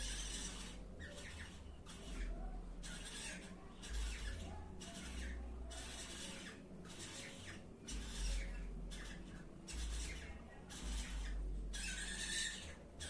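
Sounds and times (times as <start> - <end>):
birds making raspy hissing sounds: 0.0 - 12.7.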